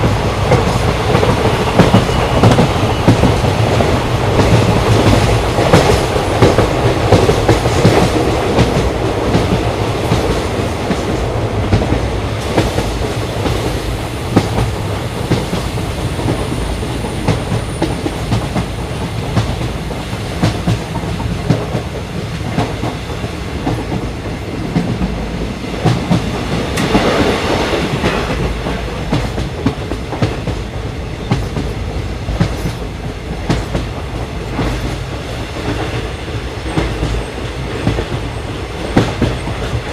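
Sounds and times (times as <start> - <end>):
train rumbling on track: 0.0 - 39.9.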